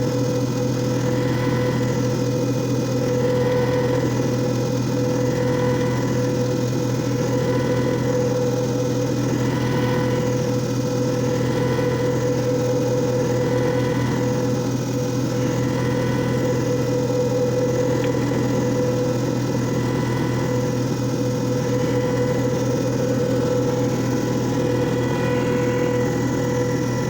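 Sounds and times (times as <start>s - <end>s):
electric motor hum with whine: 0.0s - 27.0s.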